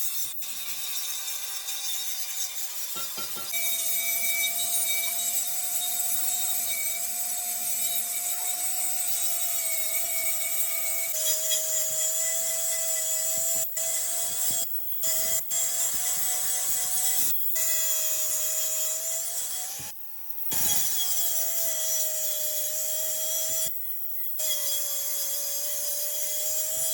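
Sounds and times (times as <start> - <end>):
small power tool whining: 0.0 - 26.9.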